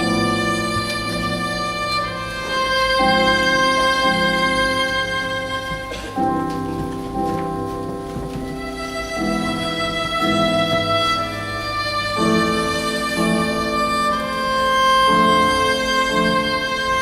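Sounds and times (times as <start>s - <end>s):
violin playing sustained notes: 0.0s - 17.0s.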